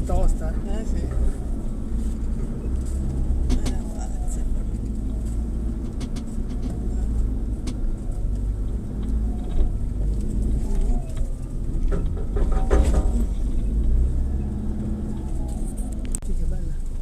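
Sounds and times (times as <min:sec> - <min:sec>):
knocks and rattles: 0:00.0 - 0:16.2
off-road vehicle engine rumbling: 0:00.0 - 0:17.0.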